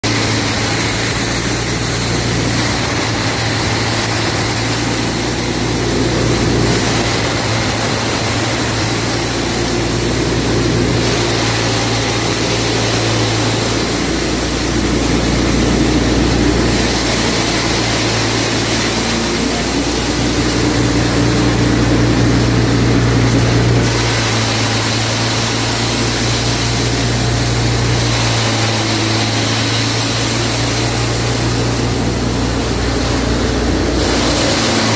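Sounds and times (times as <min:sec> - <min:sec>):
dryer motor humming: 0:00.0 - 0:34.9
rushing noise: 0:00.0 - 0:34.9.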